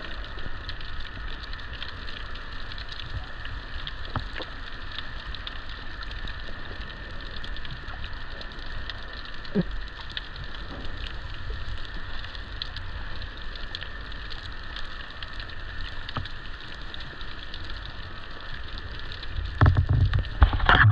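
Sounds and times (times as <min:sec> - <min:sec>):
underwater crackling hiss: 0:00.0 - 0:20.8
low underwater rumble: 0:00.0 - 0:20.9.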